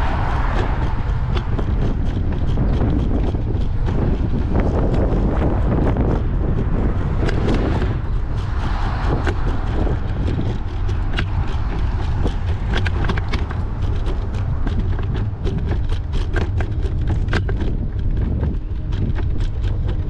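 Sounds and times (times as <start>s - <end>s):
bike clicks and rattles: 0.0s - 20.0s
wind rumbling on microphone: 0.0s - 20.0s.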